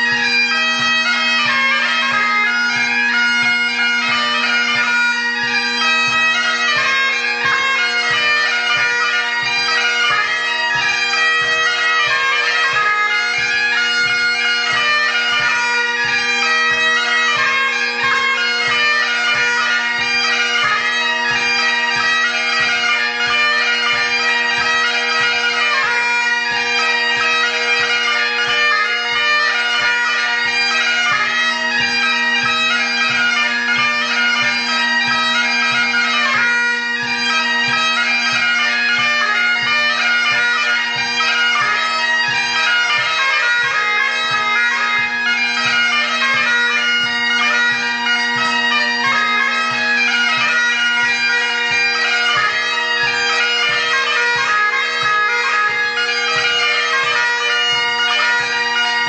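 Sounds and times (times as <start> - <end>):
bagpipe chanter melody: 0.0 - 59.0
bagpipe drones humming: 0.0 - 59.0.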